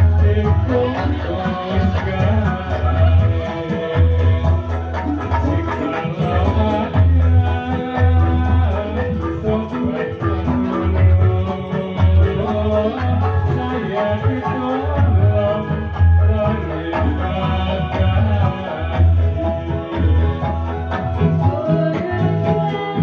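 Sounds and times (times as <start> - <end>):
heavy low drum beats: 0.0 - 23.0
pitched melody: 0.0 - 23.0
rattling percussion: 0.0 - 23.0.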